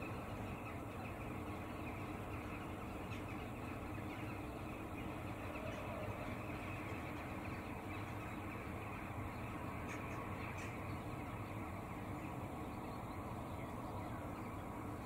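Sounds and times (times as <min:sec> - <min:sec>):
low outdoor hum and hiss: 0:00.0 - 0:15.0.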